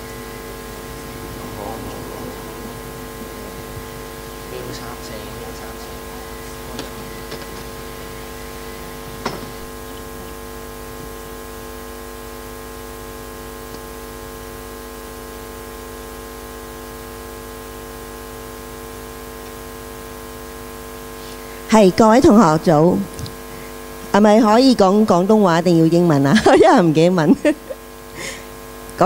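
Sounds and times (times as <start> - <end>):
constant hiss: 0.0 - 29.0
electrical hum with tones: 0.0 - 29.0.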